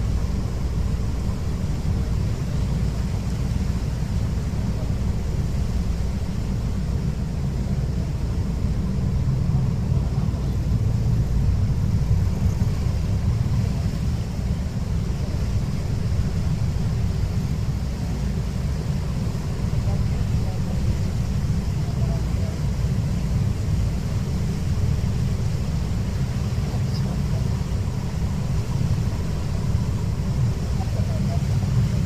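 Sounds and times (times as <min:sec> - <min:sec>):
churning water wake: 0:00.0 - 0:32.0
ship engines droning: 0:00.0 - 0:32.0
wind buffeting microphone: 0:00.0 - 0:32.0.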